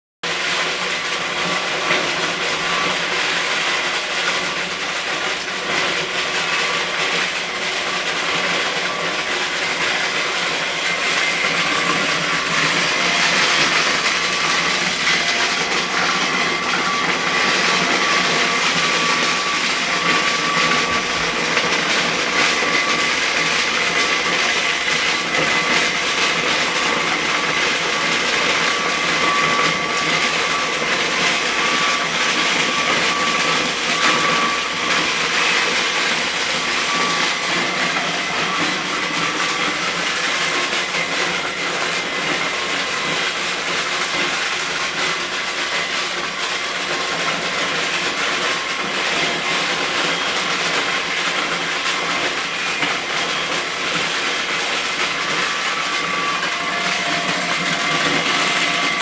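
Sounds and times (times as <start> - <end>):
corn sheller machine running: 0.2 - 59.0.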